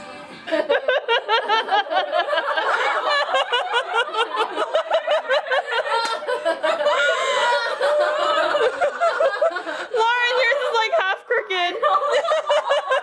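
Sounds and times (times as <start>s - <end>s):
women laughing hard: 0.5s - 13.0s.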